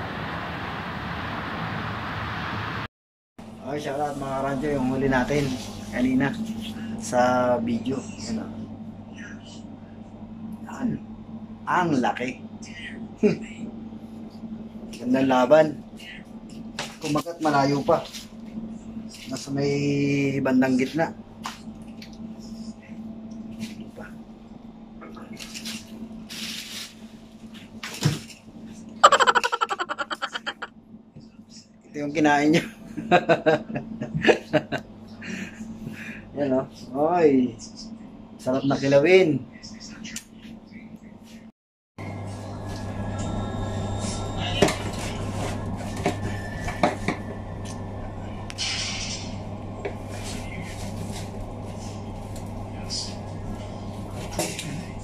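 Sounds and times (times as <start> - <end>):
steady low hum: 3.5 - 55.0.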